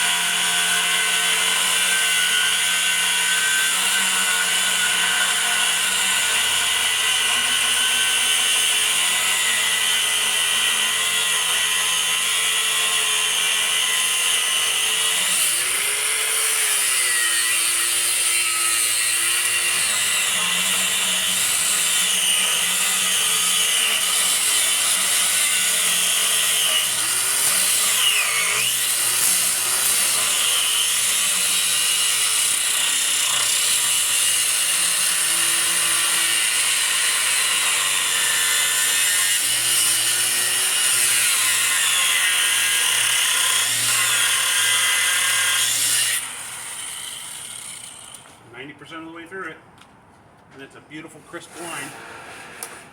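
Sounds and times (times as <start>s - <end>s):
power tool cutting steel: 0.0s - 48.4s, 51.3s - 52.8s.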